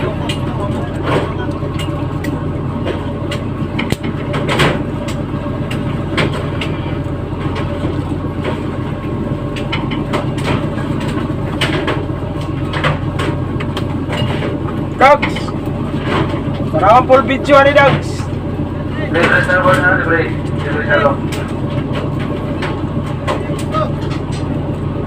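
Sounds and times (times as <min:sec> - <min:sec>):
knocks and clanks: 0:00.0 - 0:18.4, 0:19.0 - 0:24.6
boat engine drone: 0:00.0 - 0:25.0.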